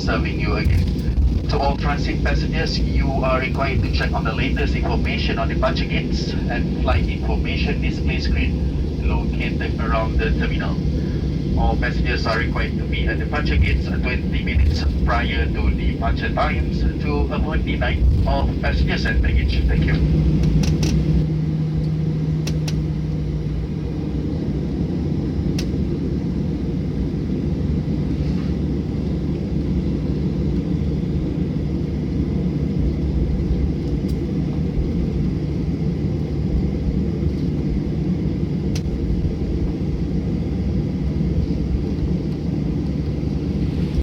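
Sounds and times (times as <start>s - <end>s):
aircraft engines idling rumble: 0.0s - 44.0s.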